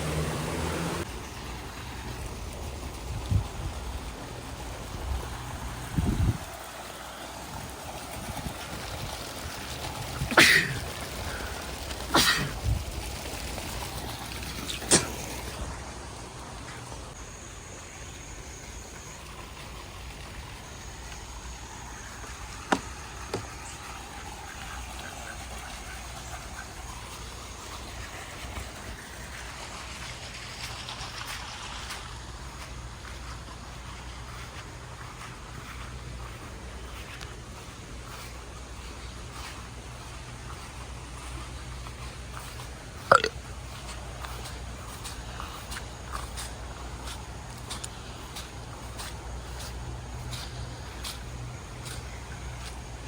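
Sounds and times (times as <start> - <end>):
running floodwater rushing: 0.0 - 53.0.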